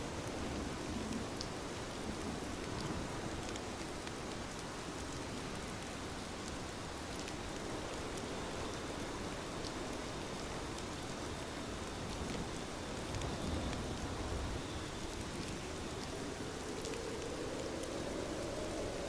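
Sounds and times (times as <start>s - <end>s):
soft rainfall hiss: 0.0s - 19.0s.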